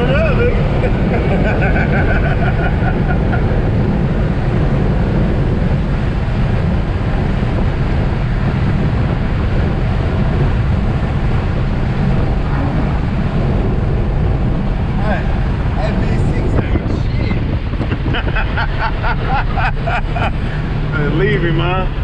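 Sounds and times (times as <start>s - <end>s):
car engine rumble: 0.0s - 22.0s
road and wind noise: 0.0s - 22.0s.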